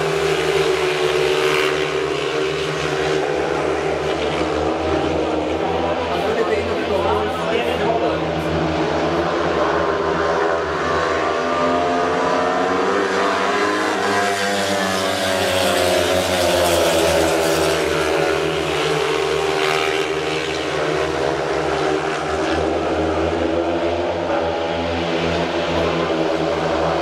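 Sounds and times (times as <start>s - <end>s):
motorcycle engines racing at high revs: 0.0s - 27.0s.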